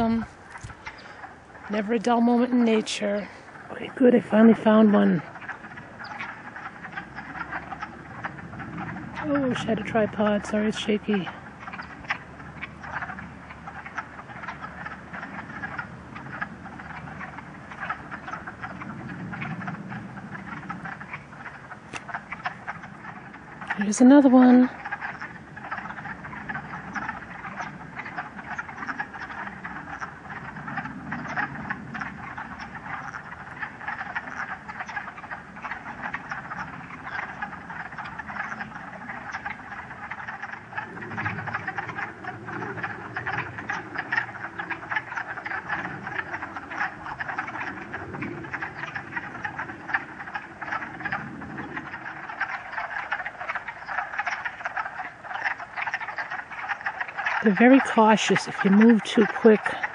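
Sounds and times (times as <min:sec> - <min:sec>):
frogs clucking in chorus: 0:00.0 - 0:59.9.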